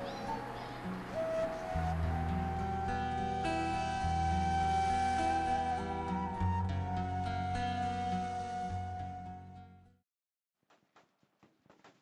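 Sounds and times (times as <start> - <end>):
soft background music: 0.0 - 9.8.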